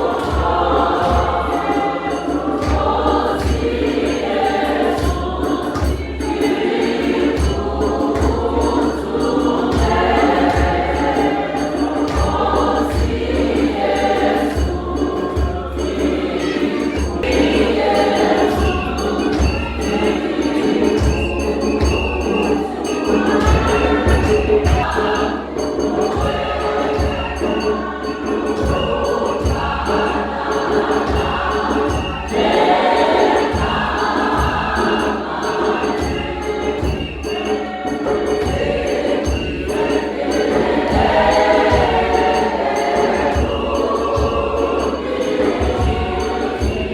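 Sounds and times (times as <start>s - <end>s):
choir singing gospel: 0.0s - 46.9s.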